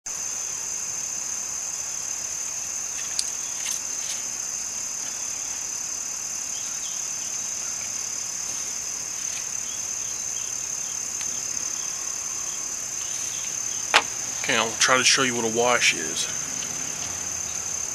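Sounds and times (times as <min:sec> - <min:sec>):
high-pitched insect chorus: 0:00.1 - 0:17.9.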